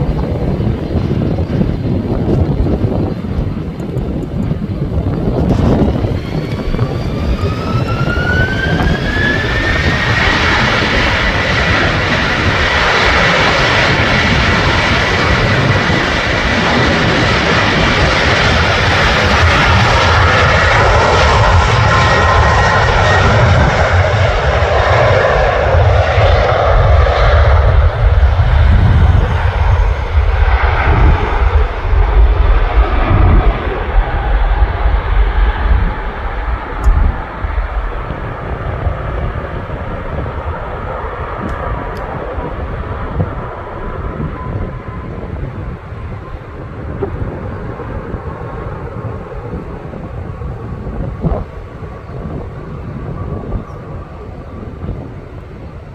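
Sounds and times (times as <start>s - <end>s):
deep engine rumble: 0.0s - 55.9s
jet engines whining: 0.0s - 55.9s.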